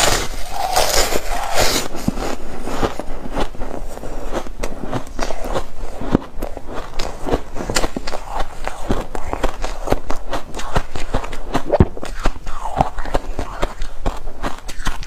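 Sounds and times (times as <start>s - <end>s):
biting into crunchy ice: 0.0s - 15.0s
chewing ice crackles: 0.0s - 15.0s.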